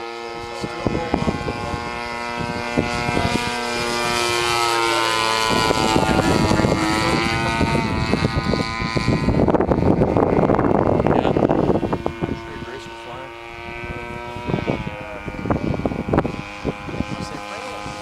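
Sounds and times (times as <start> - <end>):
propeller aircraft engine drone: 0.0 - 18.0
wind rushing: 0.3 - 18.0.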